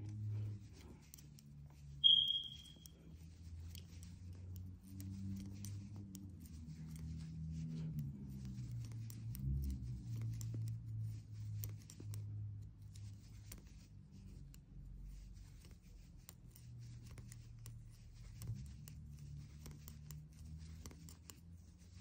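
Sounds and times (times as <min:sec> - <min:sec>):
knitting needles clicking: 0:00.0 - 0:22.0.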